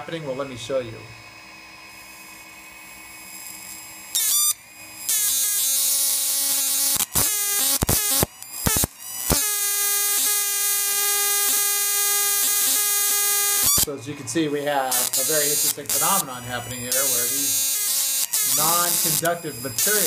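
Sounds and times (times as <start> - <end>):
faint hum: 0.0 - 20.0
electrical spark buzz: 1.5 - 13.9, 14.7 - 20.0.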